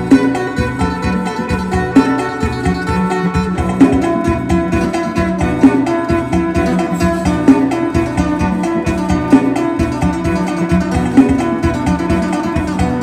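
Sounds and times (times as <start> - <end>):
plucked lute with drone: 0.0 - 13.0.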